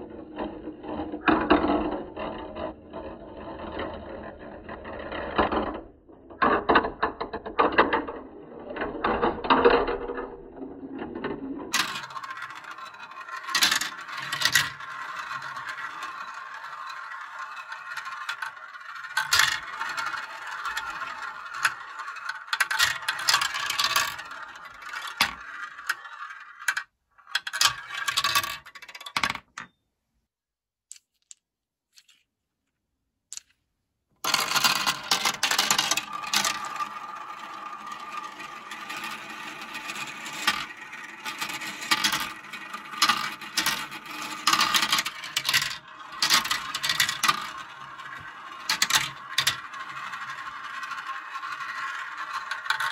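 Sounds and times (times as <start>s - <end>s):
plastic balls rolling and clicking: 0.0s - 29.8s, 33.3s - 52.9s.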